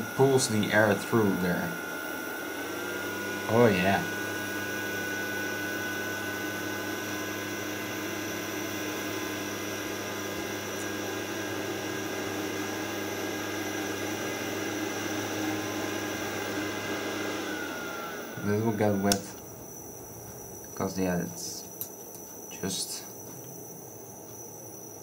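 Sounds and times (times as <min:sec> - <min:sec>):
fan rushing with faint whine: 0:00.0 - 0:25.0.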